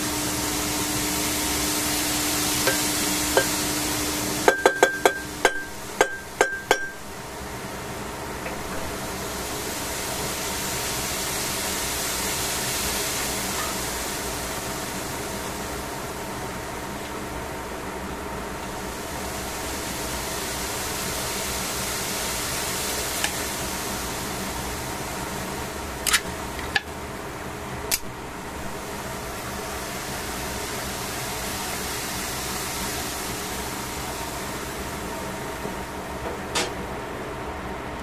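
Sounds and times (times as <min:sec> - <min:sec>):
pot simmering hiss: 0:00.0 - 0:37.7.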